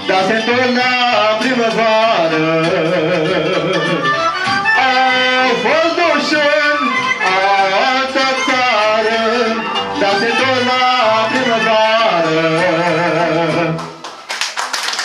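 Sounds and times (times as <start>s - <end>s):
folk song with ornamented melody: 0.0s - 13.8s.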